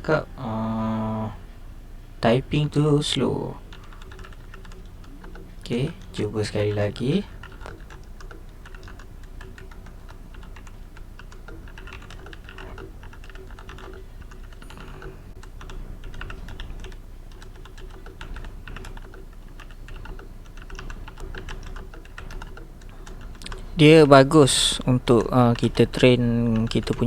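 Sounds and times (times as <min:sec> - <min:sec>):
mechanical keyboard typing: 0:02.4 - 0:27.0.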